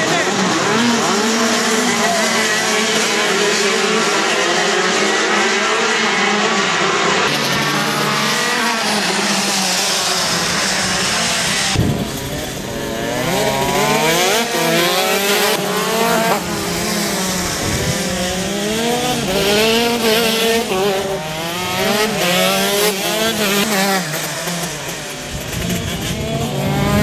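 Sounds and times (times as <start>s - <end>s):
kart engines passing: 0.0s - 27.0s.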